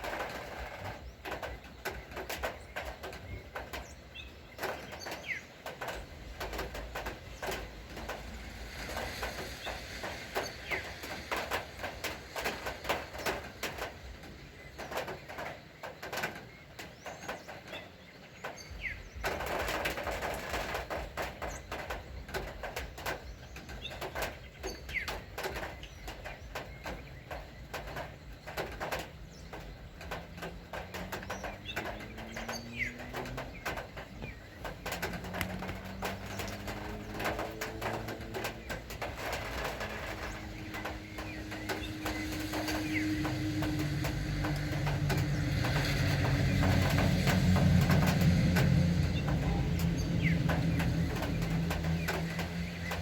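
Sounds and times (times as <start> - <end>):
birds chirping: 0.0 - 53.0
steady rain with drips: 0.0 - 53.0.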